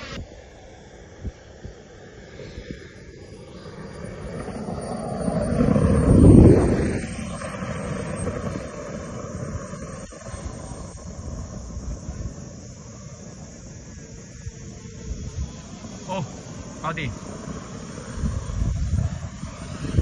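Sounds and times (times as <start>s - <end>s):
high turbine whine: 0.0s - 20.0s
model jet rushing past: 0.0s - 20.0s.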